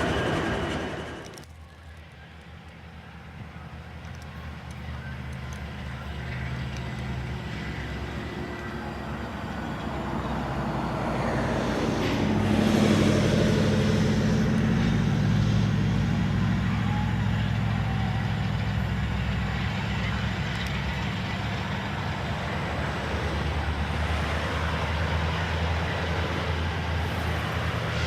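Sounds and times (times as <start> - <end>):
diesel locomotive engines: 0.0 - 28.0.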